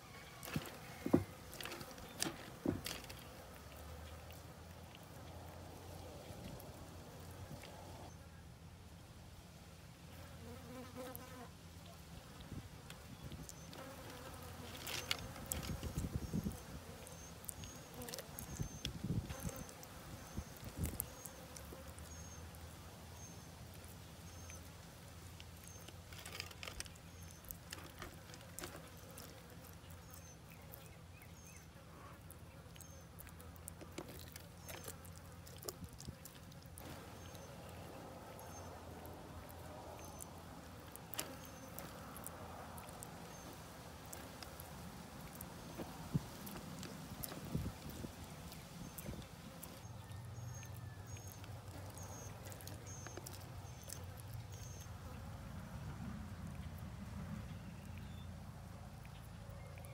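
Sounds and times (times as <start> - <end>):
wet chewing clicks and snaps: 0.4 - 7.9, 13.2 - 22.7, 23.6 - 55.2, 56.3 - 59.9.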